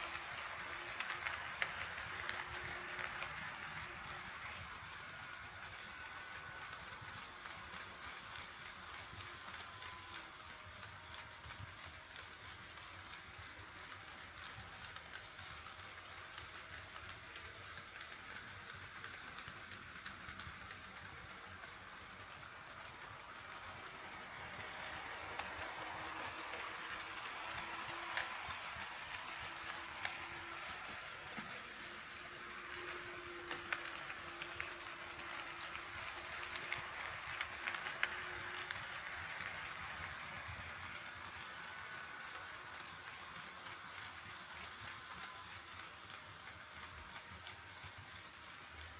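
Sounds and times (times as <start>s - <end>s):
model train rolling rumble: 0.0s - 48.9s
wheels clicking over rail joints: 0.0s - 48.9s.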